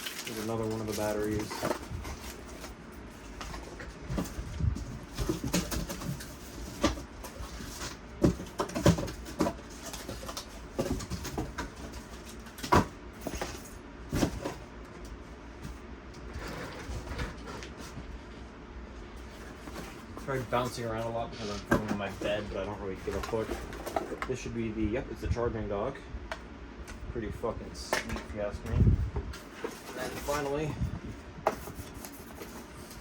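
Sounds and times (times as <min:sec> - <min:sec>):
packaging rustling and scraping: 0:00.0 - 0:14.7, 0:15.6 - 0:18.4, 0:19.2 - 0:24.4, 0:28.0 - 0:33.0.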